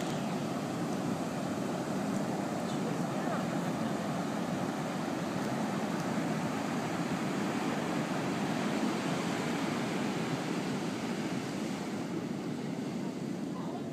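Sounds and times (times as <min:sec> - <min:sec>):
ocean surf on beach: 0:00.0 - 0:13.9.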